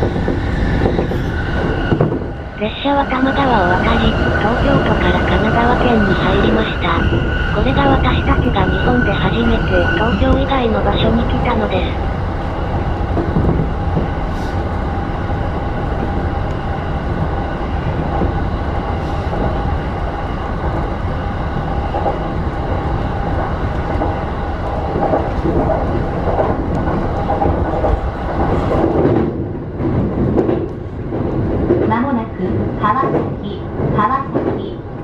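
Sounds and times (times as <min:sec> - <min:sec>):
electric train rolling rumble: 0:00.0 - 0:35.0
train whine: 0:00.0 - 0:35.0.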